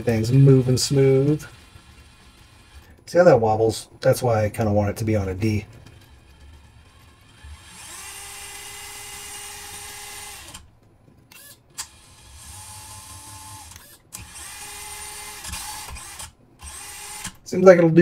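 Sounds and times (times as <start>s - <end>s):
electric motor and gears whining: 0.0s - 3.7s, 4.7s - 10.7s, 11.3s - 17.9s.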